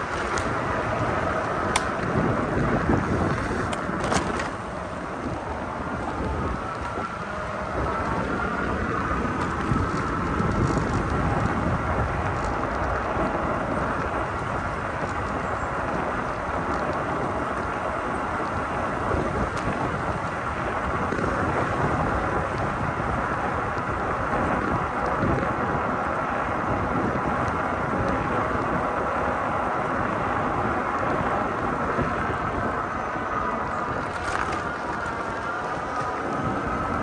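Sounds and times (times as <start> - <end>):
bicycle tyre rumble: 0.0 - 37.0
wind buffeting microphone: 0.0 - 37.0.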